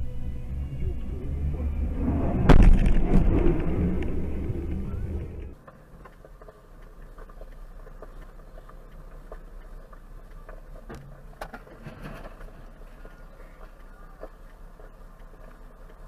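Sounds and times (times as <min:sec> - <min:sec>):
in-car hum: 0:00.0 - 0:16.0
loud rumble of tyres and engine: 0:00.0 - 0:16.0
faint clicks: 0:03.1 - 0:16.0.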